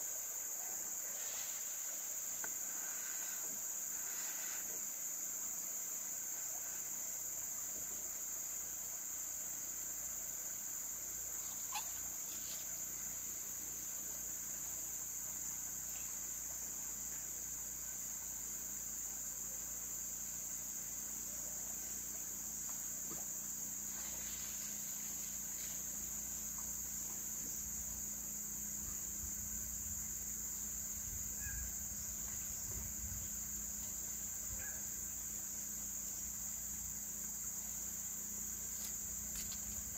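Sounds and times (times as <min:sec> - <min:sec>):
high-pitched insects buzzing: 0:00.0 - 0:39.9.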